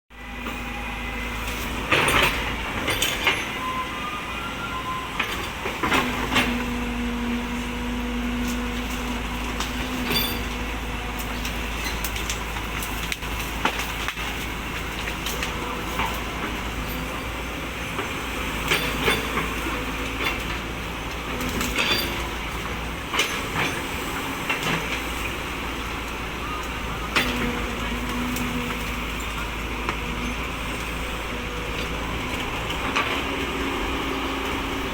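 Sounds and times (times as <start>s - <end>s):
excavator engine and hydraulics: 0.1s - 34.9s.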